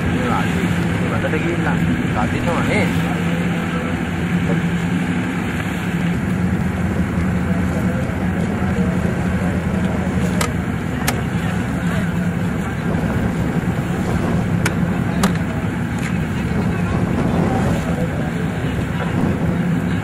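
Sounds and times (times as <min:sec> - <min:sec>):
motorboat engine droning: 0:00.0 - 0:20.0
water noise: 0:00.0 - 0:20.0
wind: 0:00.0 - 0:20.0.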